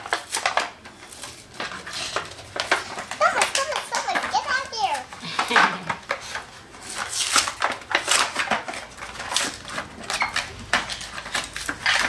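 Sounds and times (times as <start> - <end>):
cardboard packaging crackling: 0.0 - 12.0.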